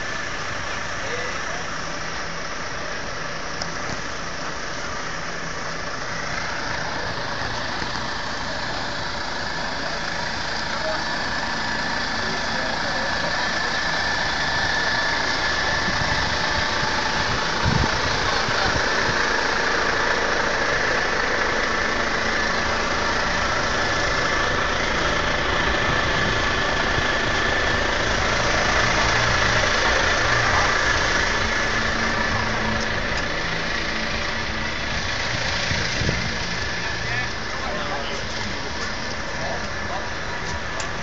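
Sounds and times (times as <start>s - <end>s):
diesel truck engine idling: 0.0s - 41.0s
high whine: 0.0s - 41.0s.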